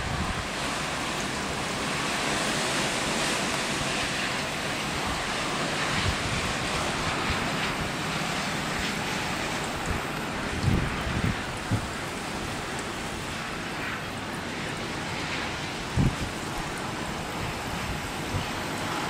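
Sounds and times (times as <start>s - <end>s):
wind gusts hitting microphone: 0.0s - 19.0s
wind-driven rain rushing: 0.0s - 19.0s.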